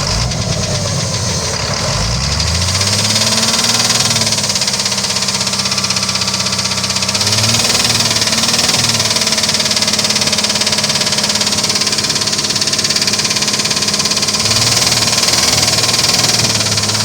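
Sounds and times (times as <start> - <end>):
engine idling with knock: 0.0 - 17.0.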